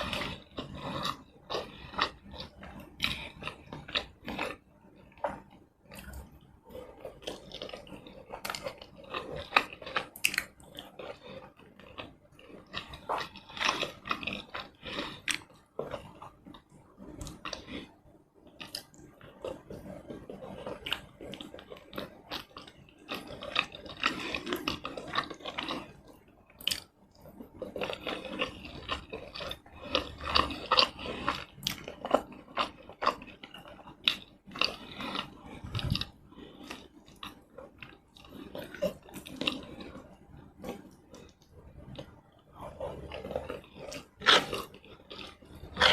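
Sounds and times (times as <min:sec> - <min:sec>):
person chewing with wet mouth sounds: 0:00.0 - 0:45.9.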